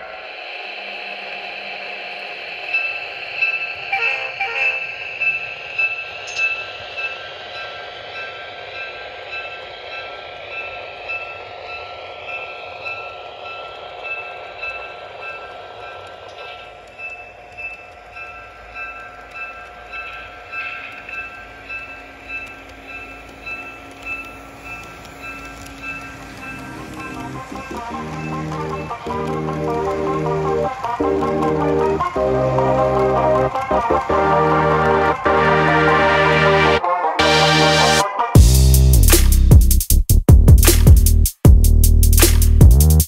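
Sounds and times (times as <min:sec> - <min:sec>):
model train running: 0:00.0 - 0:36.8
locomotive ringing tones: 0:00.0 - 0:38.4.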